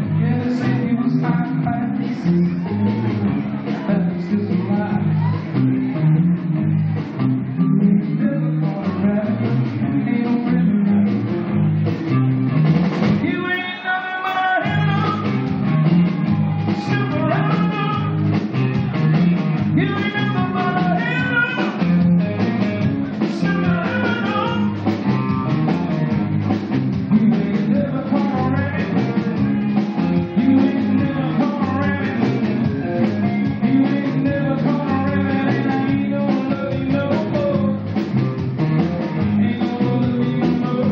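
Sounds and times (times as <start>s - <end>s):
bass guitar: 0.0s - 40.9s
drum kit: 0.0s - 40.9s
electric guitar lead: 0.0s - 40.9s.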